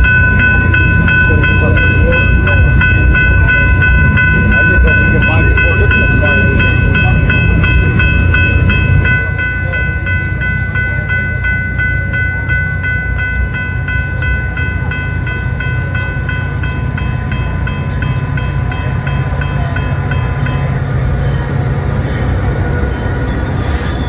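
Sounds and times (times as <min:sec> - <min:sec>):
crossing warning bell ringing: 0:00.0 - 0:24.0
train rumbling past: 0:00.0 - 0:24.0.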